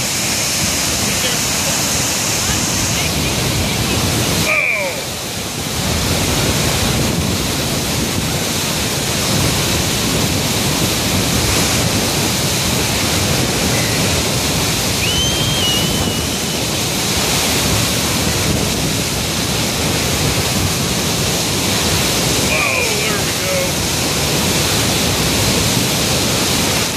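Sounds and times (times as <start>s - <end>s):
loud rush of water: 0.0s - 26.9s.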